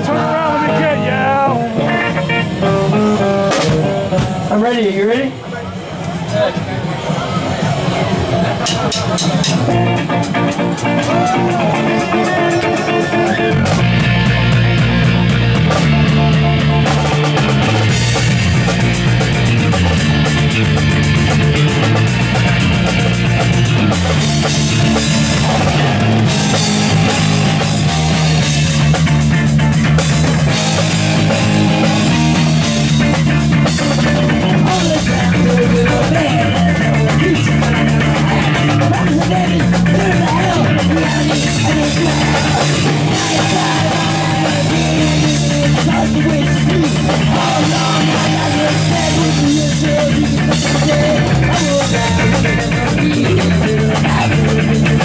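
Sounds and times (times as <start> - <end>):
drum kit: 0.0 - 4.8, 6.2 - 55.0
bass guitar: 0.0 - 5.4, 6.0 - 55.0
electric guitars: 0.0 - 55.0.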